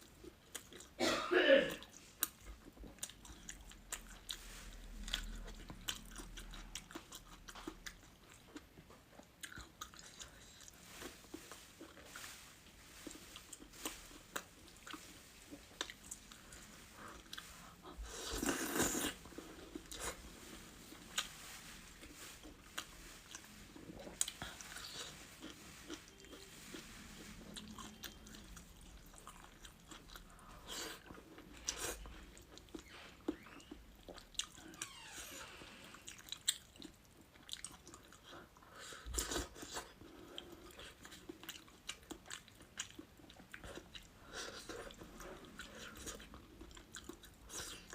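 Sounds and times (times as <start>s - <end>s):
person crunching and chewing: 1.8s - 34.9s, 35.7s - 47.9s.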